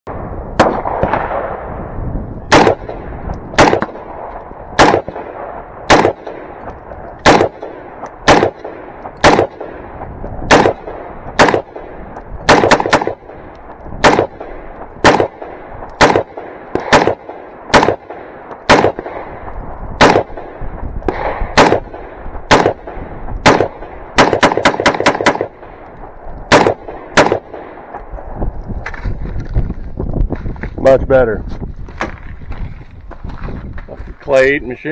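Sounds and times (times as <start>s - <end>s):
rifle shots with echo: 0.1s - 28.5s.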